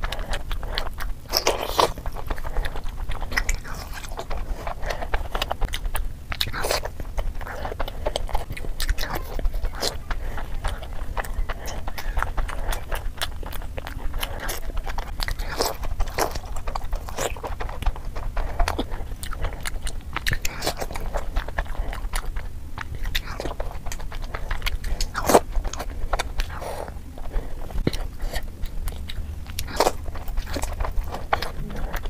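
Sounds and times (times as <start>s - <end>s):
close chewing of soft sweets: 0.0s - 32.0s
mouth clicks and smacks: 0.0s - 32.0s.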